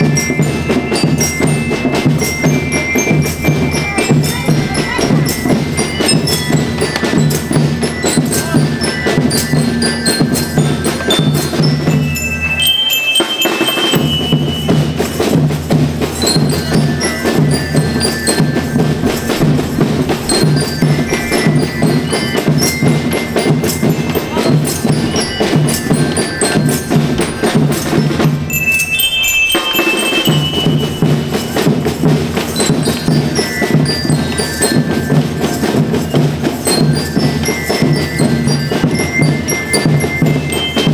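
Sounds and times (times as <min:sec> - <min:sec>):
marching drums beat: 0:00.0 - 0:12.3, 0:13.4 - 0:40.9
bell lyres playing melody: 0:00.0 - 0:40.9.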